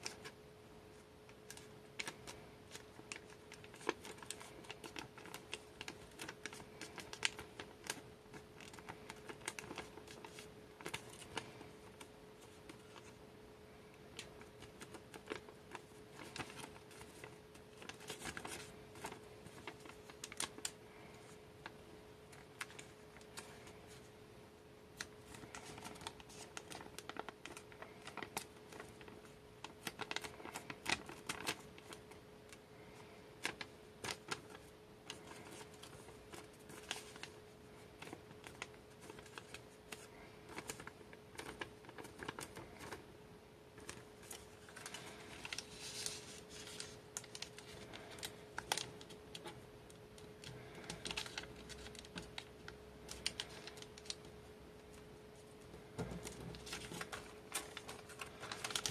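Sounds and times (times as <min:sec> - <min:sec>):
paper crackling and rustling: 0:00.0 - 0:13.2, 0:13.8 - 0:24.1, 0:25.0 - 0:58.9
faint steady hum: 0:00.0 - 0:58.9.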